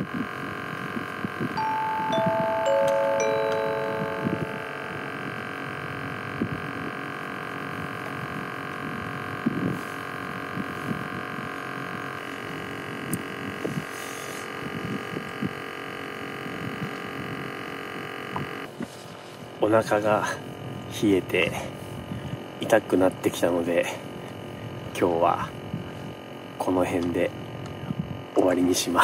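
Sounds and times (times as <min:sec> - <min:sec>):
droning hum of held tones: 0:00.0 - 0:29.0.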